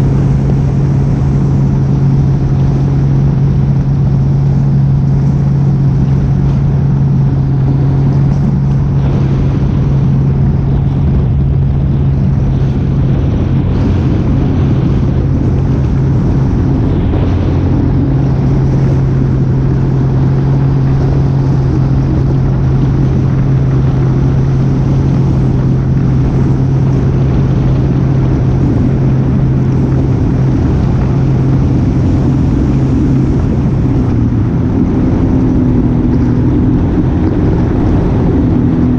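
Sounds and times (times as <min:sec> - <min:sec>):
engine humming steadily: 0:00.0 - 0:38.9
rush of wind or water: 0:00.0 - 0:38.9.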